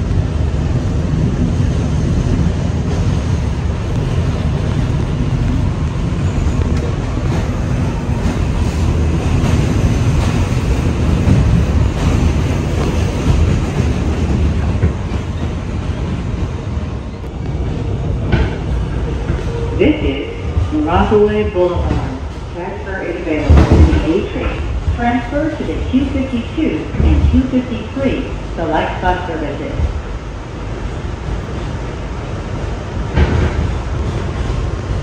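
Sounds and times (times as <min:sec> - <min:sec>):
subway train wheels rumbling: 0:00.0 - 0:35.0.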